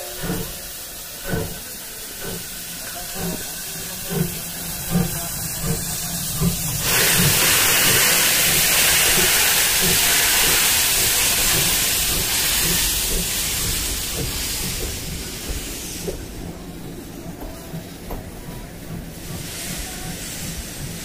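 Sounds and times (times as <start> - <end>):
steam hissing: 0.0 - 21.0
steam locomotive chuffing: 0.0 - 21.0.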